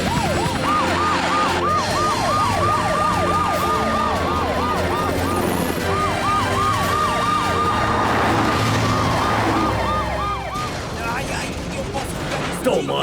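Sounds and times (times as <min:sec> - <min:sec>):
sirens yelping: 0:00.0 - 0:11.6.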